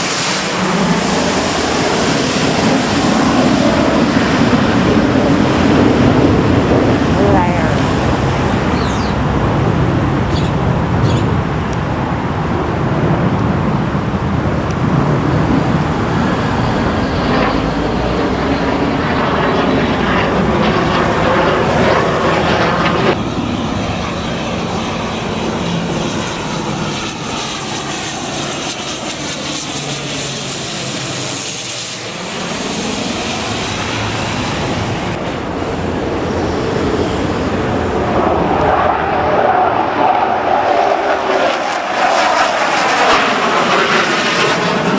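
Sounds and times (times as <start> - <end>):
distant aircraft drone: 0.0 - 44.9
fighter jet: 0.0 - 44.9
turboprop plane passing overhead: 0.0 - 44.9.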